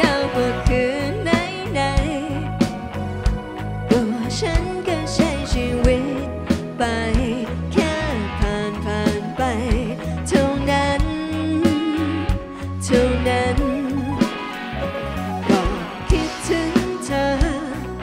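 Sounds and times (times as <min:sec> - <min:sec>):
woman singing: 0:00.0 - 0:02.8, 0:03.9 - 0:14.5, 0:15.2 - 0:18.0
bass guitar: 0:00.0 - 0:18.0
drum kit beat: 0:00.0 - 0:18.0
electric guitars: 0:00.0 - 0:18.0.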